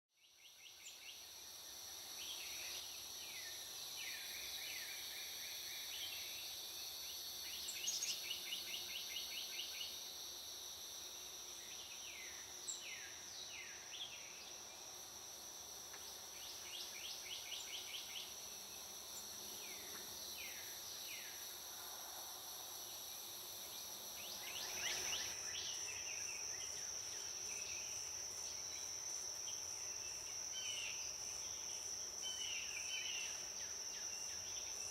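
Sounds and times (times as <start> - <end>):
high-pitched insect drone: 0.4 - 34.9.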